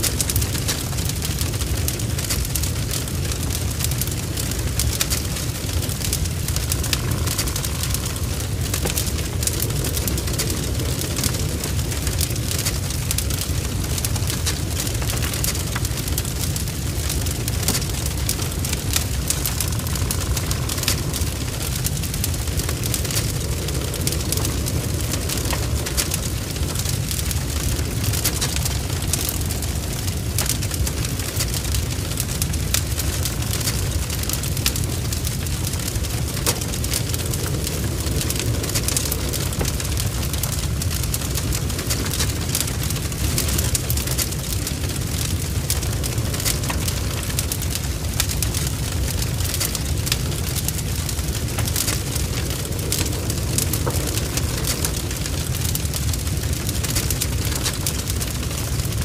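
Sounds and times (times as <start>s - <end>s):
burning wood crackling and popping: 0.0s - 59.0s
rush of flames: 0.0s - 59.0s.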